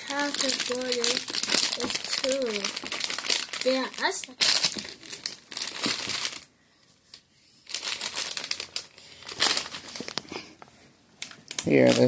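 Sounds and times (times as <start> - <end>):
packaging crinkling and rustling: 0.0 - 6.5, 7.1 - 10.5, 11.2 - 12.0.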